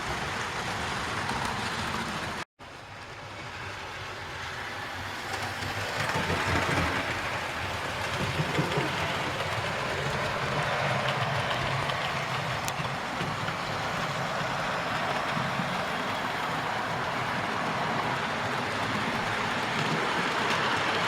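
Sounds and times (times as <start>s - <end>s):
model train wheels rumbling and clicking: 0.0s - 21.0s.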